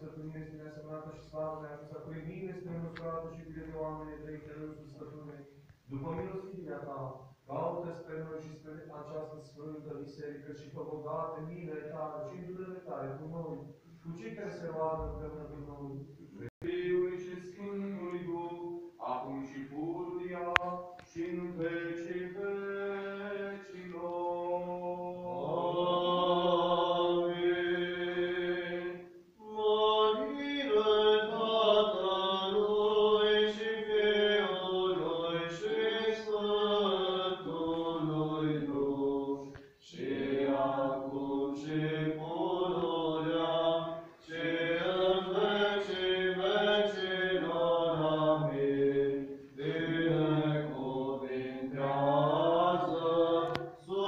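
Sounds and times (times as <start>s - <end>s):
liturgical chant singing: 0.0s - 54.0s.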